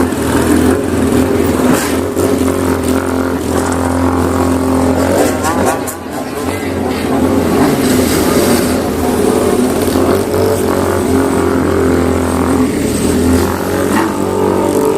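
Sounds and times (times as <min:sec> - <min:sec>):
old motorcycle engine running: 0:00.0 - 0:14.9.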